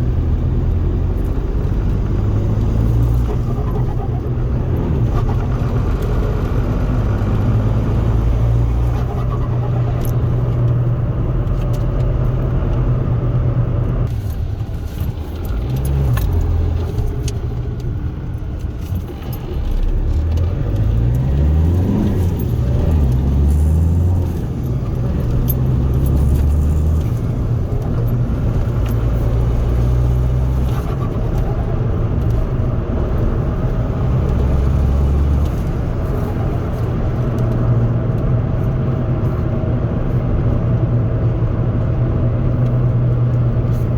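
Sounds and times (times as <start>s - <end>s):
diesel engine accelerating: 0.0s - 43.9s
road noise: 0.0s - 43.9s.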